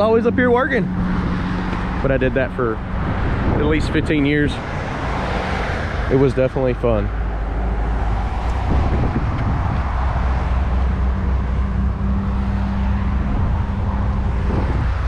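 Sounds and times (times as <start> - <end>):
low rumble of motor vehicles: 0.0 - 15.0.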